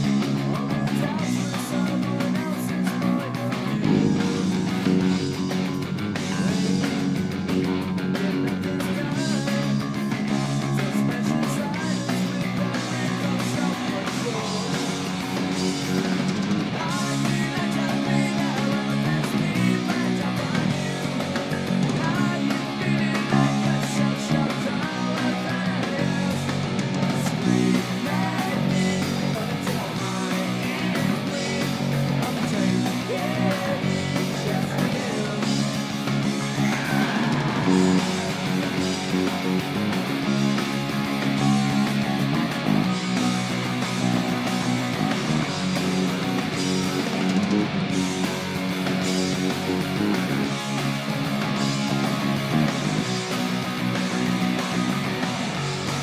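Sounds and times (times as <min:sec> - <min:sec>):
electric bass playing: 0:00.0 - 0:56.0
full-band rock music: 0:00.0 - 0:56.0.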